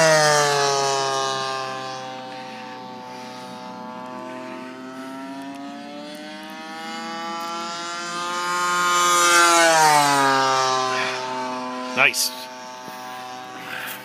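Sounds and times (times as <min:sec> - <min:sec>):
model airplane engine passing: 0:00.0 - 0:14.0.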